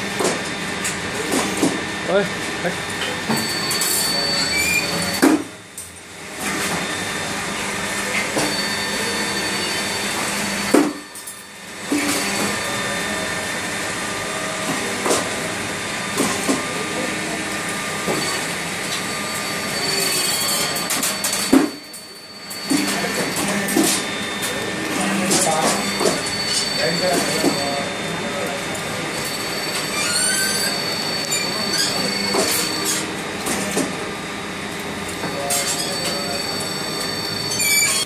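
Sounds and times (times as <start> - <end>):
roll forming machine running: 0.0 - 38.0.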